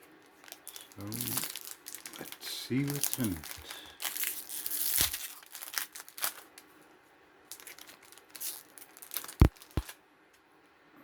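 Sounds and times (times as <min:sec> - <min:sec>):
wrapper crinkling and tearing: 0:00.2 - 0:06.7, 0:07.5 - 0:10.0.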